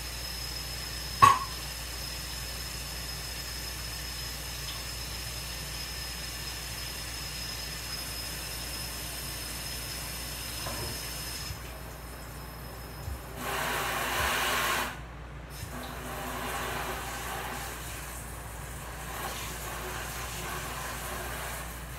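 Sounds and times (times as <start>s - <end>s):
water running from a tap: 0.0s - 14.9s, 15.5s - 21.9s.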